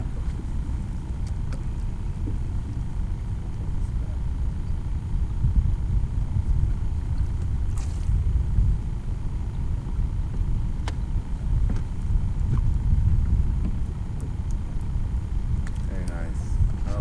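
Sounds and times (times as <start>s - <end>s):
faint steady hum: 0.0s - 17.0s
low uneven rumbling: 0.0s - 17.0s.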